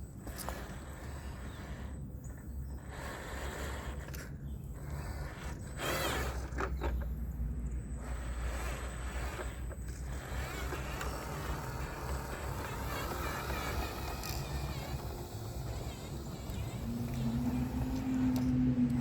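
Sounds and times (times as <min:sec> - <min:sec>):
toy truck motor whirring: 0:00.0 - 0:19.0.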